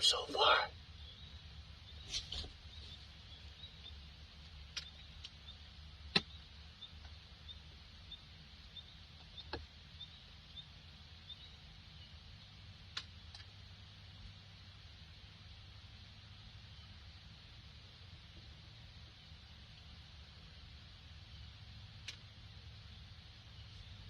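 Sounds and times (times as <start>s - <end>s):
faint low rumble: 0.0s - 24.0s.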